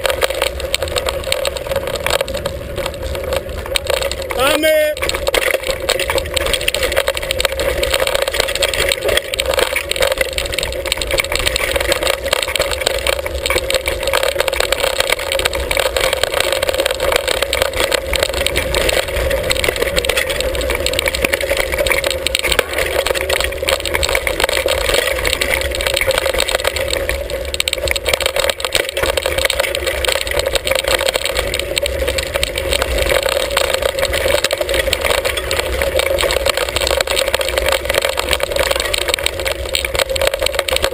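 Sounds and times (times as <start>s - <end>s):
mountain bike rattling: 0.0s - 40.9s
tyres on dirt and stones: 0.0s - 40.9s
wind rumbling on microphone: 0.0s - 40.9s.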